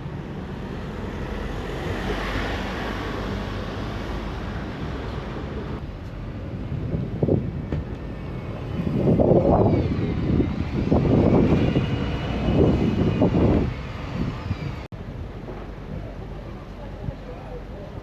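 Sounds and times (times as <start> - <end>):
engine rumble: 0.0 - 18.0.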